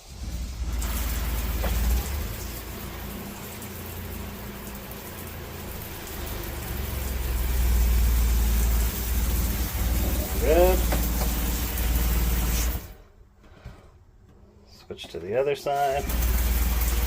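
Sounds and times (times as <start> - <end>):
water spraying from shower head: 0.0 - 13.0, 15.7 - 17.0
water pump humming: 0.0 - 13.1, 15.7 - 17.0.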